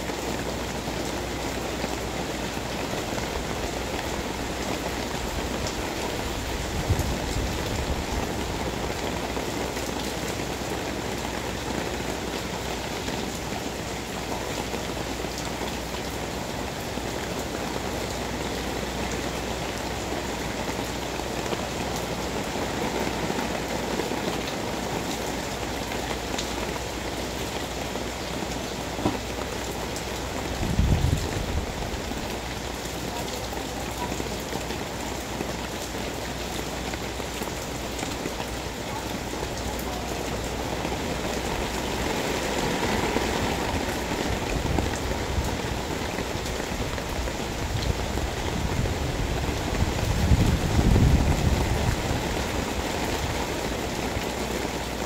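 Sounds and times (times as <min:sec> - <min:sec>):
heavy rain on concrete: 0:00.0 - 0:55.0.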